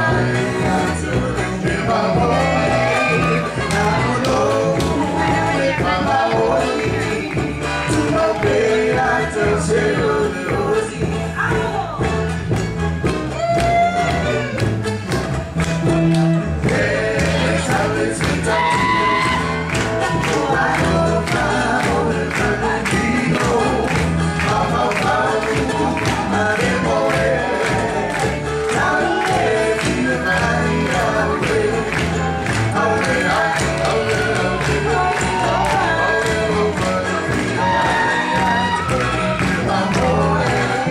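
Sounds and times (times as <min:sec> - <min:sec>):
group of voices singing: 0:00.0 - 0:11.9, 0:16.3 - 0:40.9
music with steady beat: 0:00.0 - 0:40.9.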